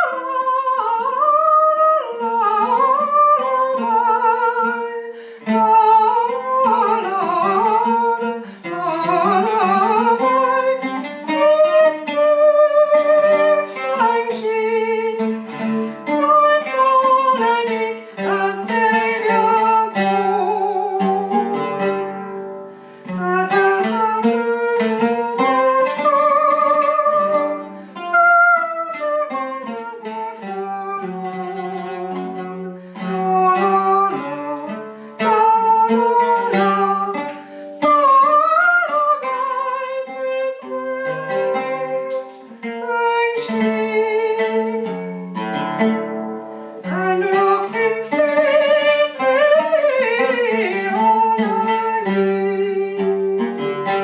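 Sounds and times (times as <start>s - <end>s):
plucked oud notes: 0.0s - 54.0s
woman singing ornamented melody: 0.0s - 54.0s.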